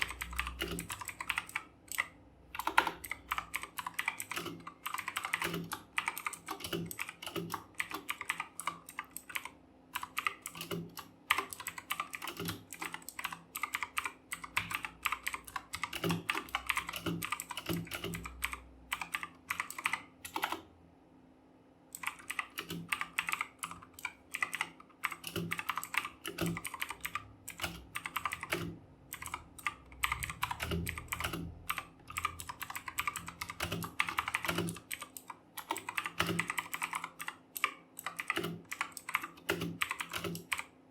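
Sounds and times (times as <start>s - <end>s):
mechanical keyboard typing: 0.0s - 20.7s, 21.9s - 40.8s.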